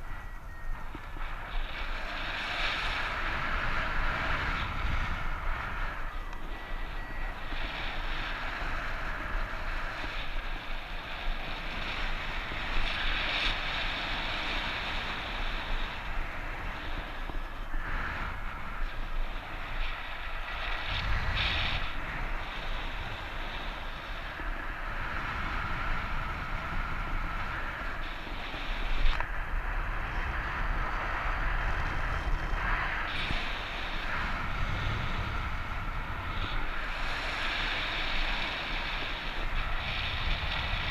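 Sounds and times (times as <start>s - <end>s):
strong wind on microphone: 0.0s - 40.9s.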